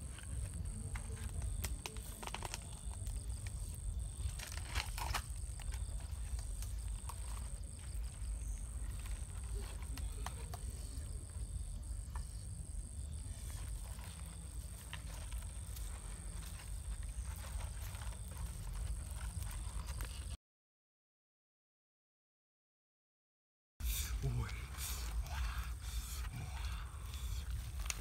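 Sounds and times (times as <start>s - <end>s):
campfire crackling and popping: 0.0s - 20.4s, 23.9s - 28.0s
insect trill: 0.0s - 20.4s, 23.8s - 28.0s.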